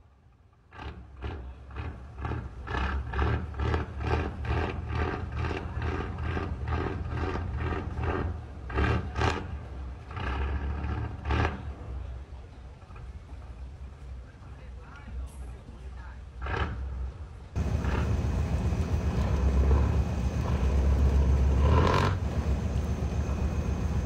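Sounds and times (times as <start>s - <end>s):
boat diesel engine rhythmic exhaust: 0.0s - 14.0s, 16.3s - 24.0s.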